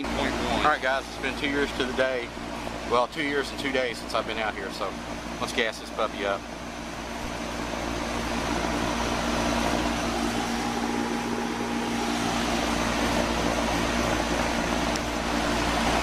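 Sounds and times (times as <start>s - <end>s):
compressor hum: 0.0s - 16.0s
condenser fan air noise: 0.0s - 16.0s.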